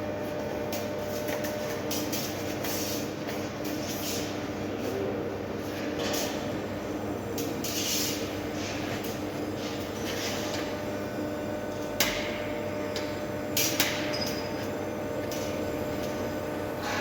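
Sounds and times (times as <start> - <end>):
welding arc hiss and hum: 0.0 - 17.0.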